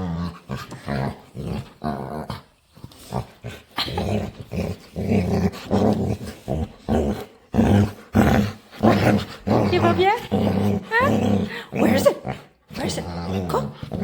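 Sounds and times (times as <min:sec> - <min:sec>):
dog growling in play: 0:00.0 - 0:14.0.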